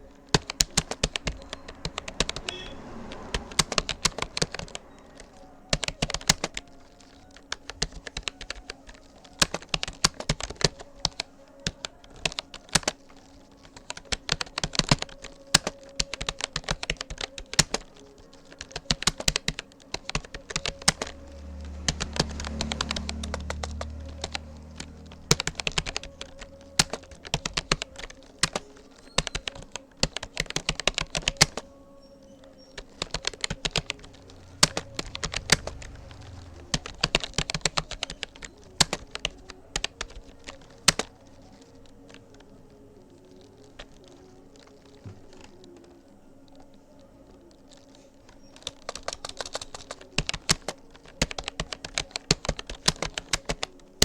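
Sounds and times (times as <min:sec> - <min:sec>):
keyboard key clicks: 0:00.3 - 0:31.7, 0:32.8 - 0:42.4, 0:48.6 - 0:53.8.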